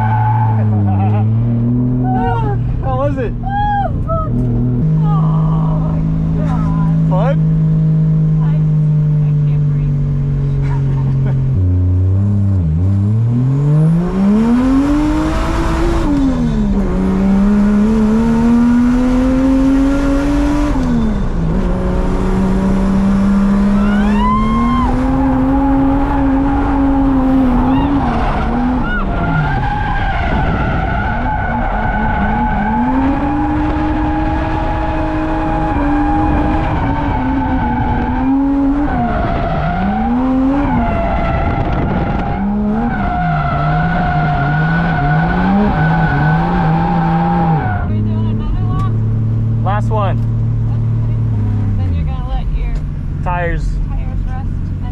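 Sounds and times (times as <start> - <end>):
car engine revving hard: 4.3 - 54.9.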